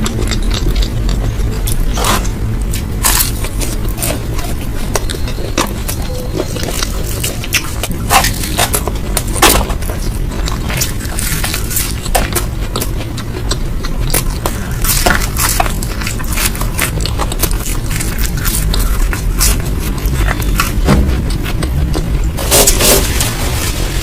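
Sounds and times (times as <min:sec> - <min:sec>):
chewing and eating: 0:00.0 - 0:24.0
steady low hum: 0:00.0 - 0:24.0.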